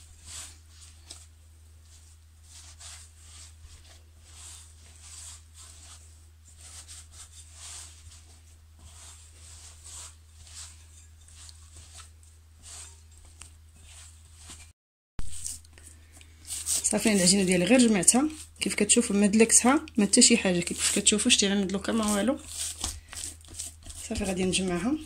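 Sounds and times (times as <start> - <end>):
hands squishing dough: 0.0 - 25.0.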